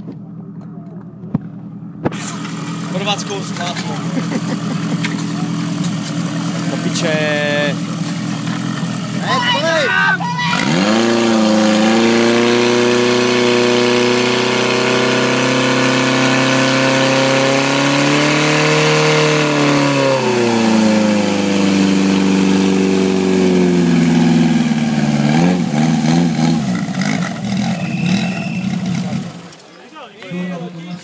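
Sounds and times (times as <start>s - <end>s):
pump engine running at high revs: 2.1s - 9.9s, 10.5s - 29.6s.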